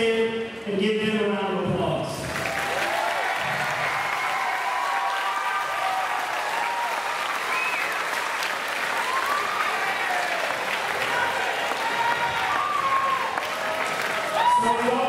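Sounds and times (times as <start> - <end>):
crowd applauding: 2.2 - 15.0.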